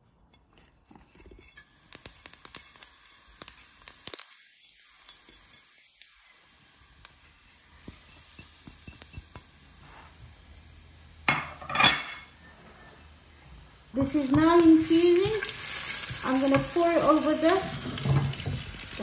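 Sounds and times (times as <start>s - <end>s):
seeds sizzling in hot fat: 1.4s - 19.0s.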